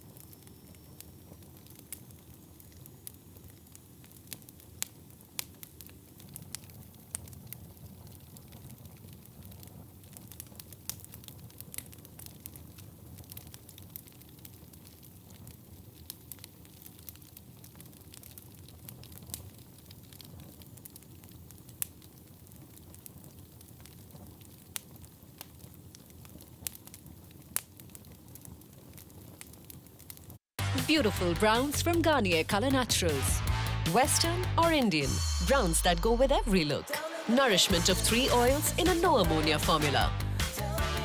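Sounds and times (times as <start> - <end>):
wood fire hissing: 0.0 - 30.4, 33.5 - 41.0
fire crackling and popping: 0.0 - 41.0.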